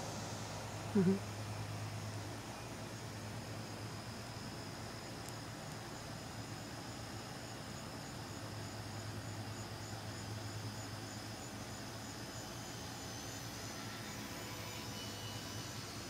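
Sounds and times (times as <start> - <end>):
steady low hum: 0.0 - 16.0
insects chirping: 0.1 - 16.0.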